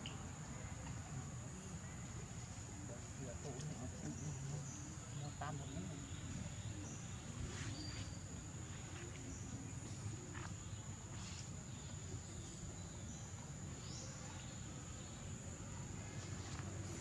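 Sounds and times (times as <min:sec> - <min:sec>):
faint rustles or chirps: 0:00.0 - 0:17.0
insects droning: 0:00.0 - 0:17.0.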